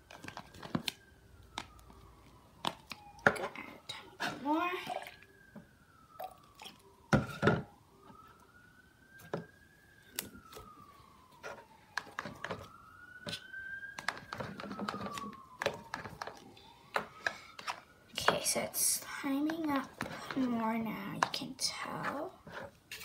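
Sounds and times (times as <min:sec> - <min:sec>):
faint siren: 0:00.0 - 0:23.0.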